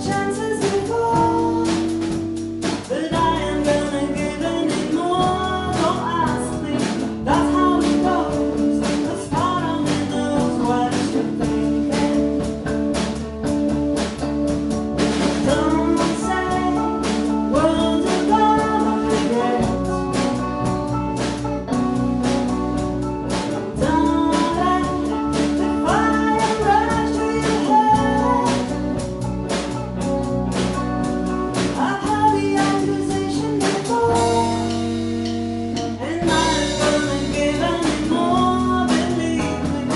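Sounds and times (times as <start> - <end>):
person singing: 0.0 - 12.8, 15.2 - 29.7, 31.3 - 35.0, 35.7 - 39.9
drums with steady beat: 0.0 - 39.9
guitar: 0.0 - 39.9.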